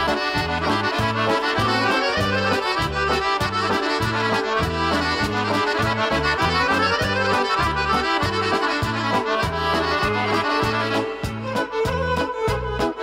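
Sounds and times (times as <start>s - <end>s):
lively folk music: 0.0s - 13.0s.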